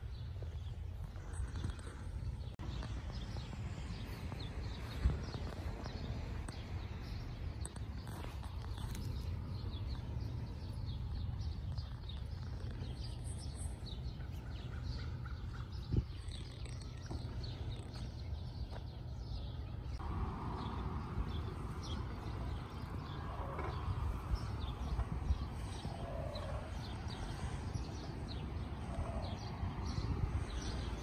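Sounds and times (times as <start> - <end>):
small birds chirping: 0.0 - 31.0
steady low rumble: 0.0 - 31.0.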